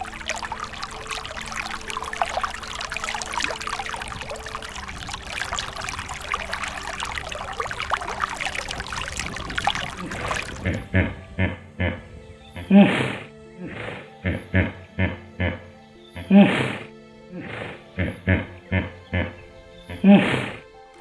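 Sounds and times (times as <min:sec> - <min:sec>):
water trickling and splashing: 0:00.0 - 0:12.7, 0:14.1 - 0:16.9, 0:17.8 - 0:20.7
soft held background music: 0:00.0 - 0:21.0.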